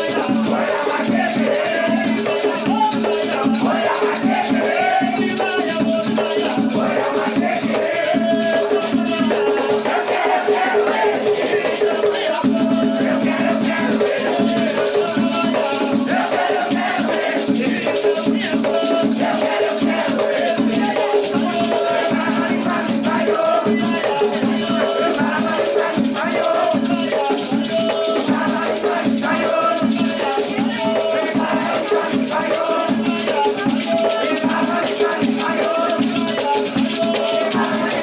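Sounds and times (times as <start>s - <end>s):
drumming: 0.0s - 38.0s
rattle shaking: 0.0s - 38.0s
voices singing: 0.0s - 38.0s.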